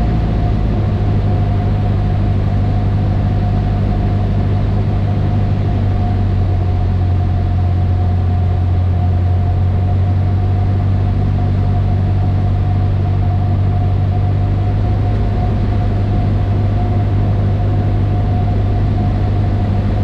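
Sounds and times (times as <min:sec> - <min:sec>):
airplane engine and propeller drone: 0:00.0 - 0:20.0.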